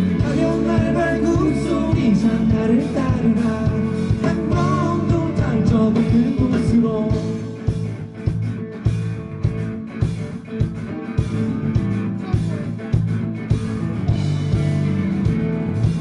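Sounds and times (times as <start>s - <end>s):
bass guitar: 0.0s - 16.0s
electric guitars: 0.0s - 16.0s
steady drum beat: 0.0s - 16.0s.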